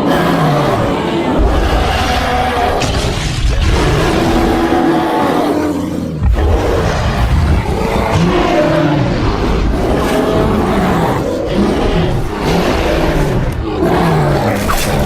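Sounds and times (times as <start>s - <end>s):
deep growling roar: 0.0s - 15.0s.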